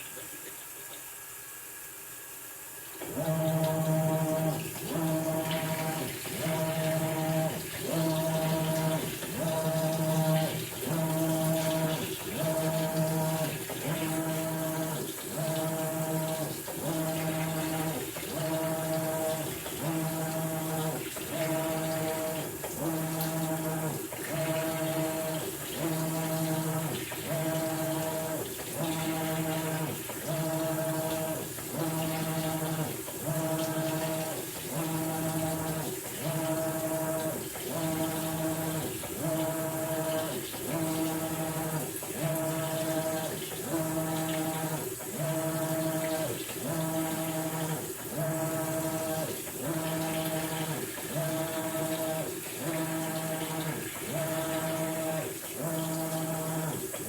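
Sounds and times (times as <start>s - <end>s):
washing machine motor humming: 0.0s - 57.0s
water sloshing in tub: 2.3s - 57.0s.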